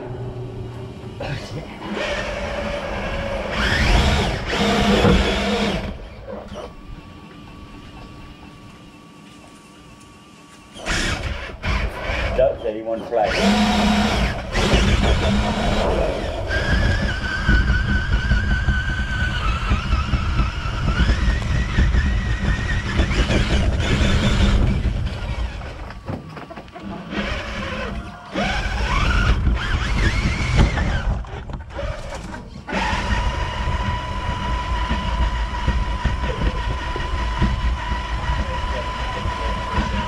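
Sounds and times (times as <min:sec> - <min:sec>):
toy truck motor whining: 0:01.8 - 0:06.8, 0:10.7 - 0:40.0.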